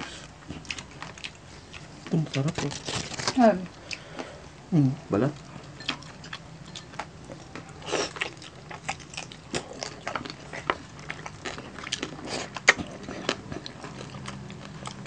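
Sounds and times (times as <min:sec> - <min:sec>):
crunching and chewing crispy skin: 0:00.0 - 0:04.4, 0:05.3 - 0:15.0
faint steady low hum: 0:00.0 - 0:15.0.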